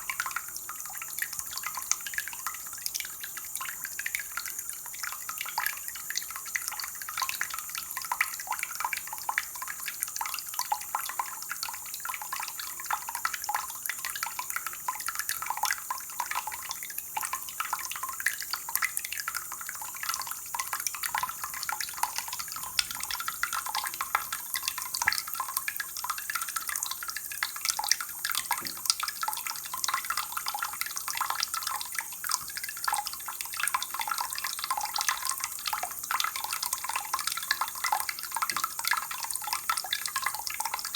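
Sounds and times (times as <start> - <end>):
water dripping and splashing: 0.0 - 40.9.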